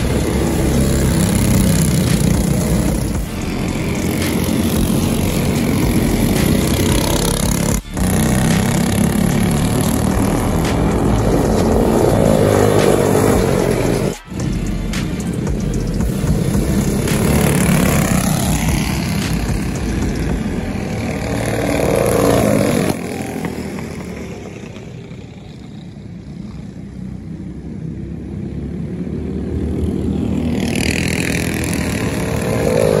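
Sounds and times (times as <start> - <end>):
racing kart engines passing: 0.0 - 33.0.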